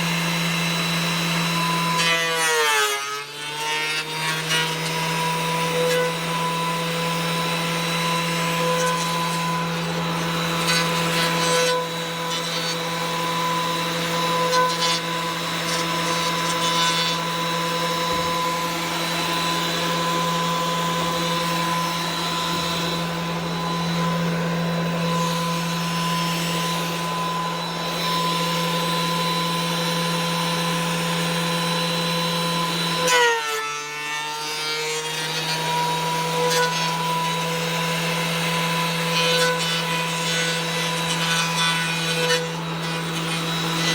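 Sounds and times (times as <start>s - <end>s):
power tool motor whine: 0.0s - 43.9s.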